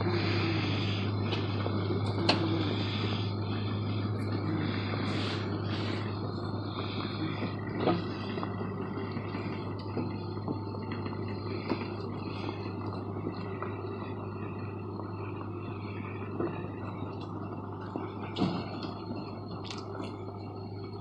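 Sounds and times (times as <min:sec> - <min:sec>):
truck engine running under load: 0:00.0 - 0:21.0.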